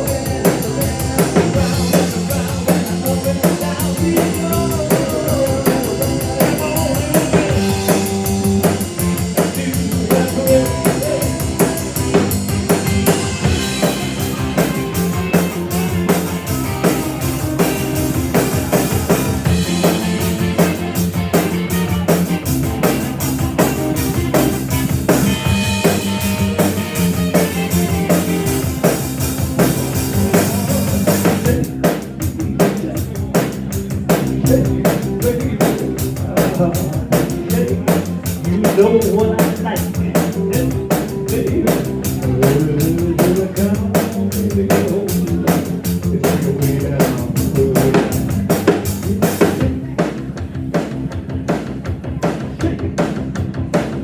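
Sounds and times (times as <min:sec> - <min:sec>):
drum kit fast beat: 0:00.0 - 0:54.0
live rock band playing: 0:00.0 - 0:54.0.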